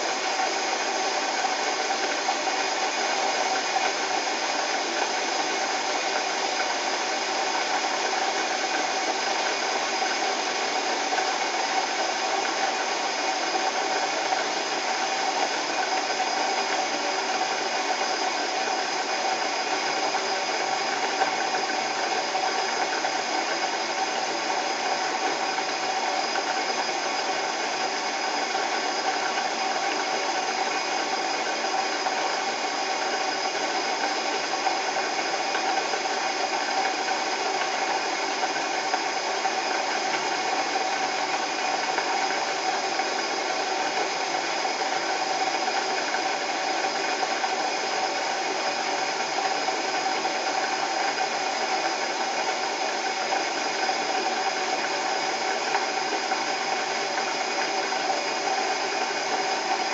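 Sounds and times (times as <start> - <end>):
dishwasher pump motor hum: 0.0 - 59.9.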